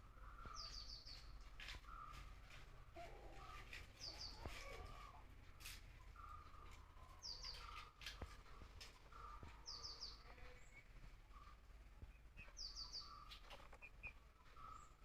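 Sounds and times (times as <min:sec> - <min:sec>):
lower bird calls: 0:00.0 - 0:02.4, 0:03.0 - 0:15.0.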